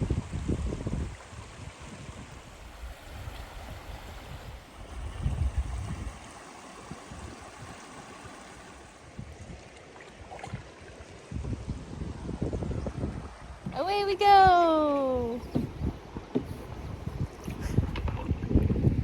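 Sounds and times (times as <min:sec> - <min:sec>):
river water rushing and lapping: 0:00.0 - 0:19.0.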